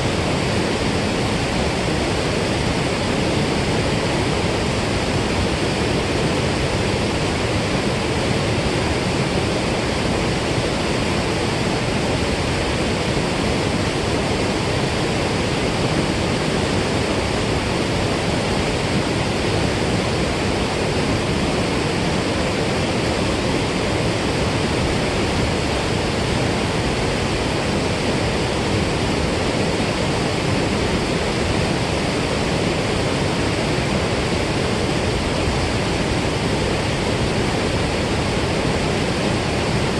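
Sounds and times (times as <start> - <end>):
water roaring from spillway: 0.0 - 39.9.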